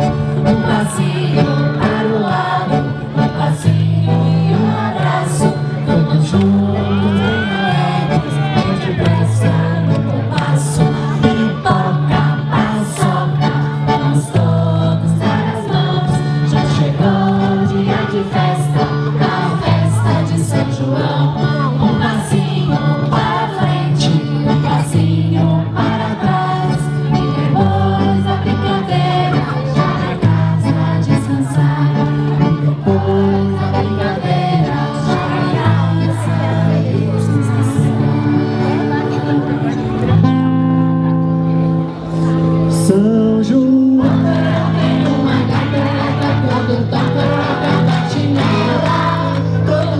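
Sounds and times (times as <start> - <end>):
group singing folk song: 0.0 - 40.3, 42.1 - 49.9
bass line: 0.0 - 49.9
instrumental accompaniment: 0.0 - 49.9.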